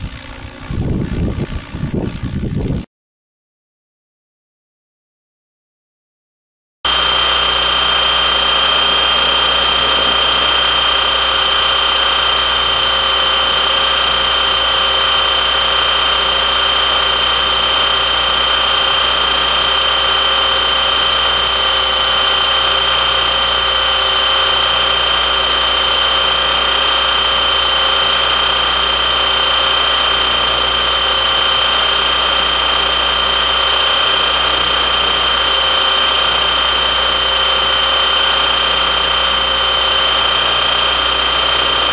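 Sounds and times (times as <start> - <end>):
rc helicopter motor whine: 0.0 - 2.9, 6.9 - 41.9.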